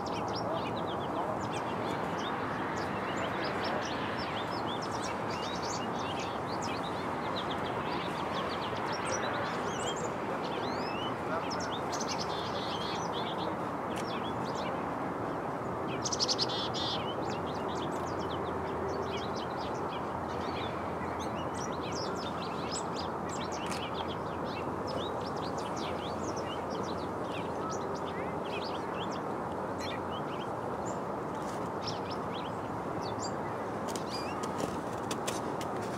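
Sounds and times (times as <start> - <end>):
small birds chirping: 0.0 - 14.8, 15.9 - 35.9.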